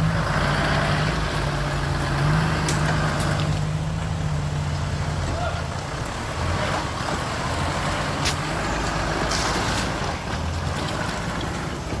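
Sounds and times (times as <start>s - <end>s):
off-road engine running under load: 0.0s - 12.0s.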